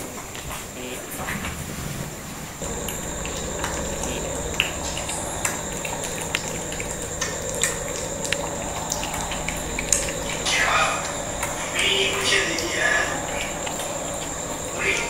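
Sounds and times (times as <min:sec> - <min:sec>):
background hum: 0:00.0 - 0:15.0
faint high whine: 0:02.6 - 0:15.0.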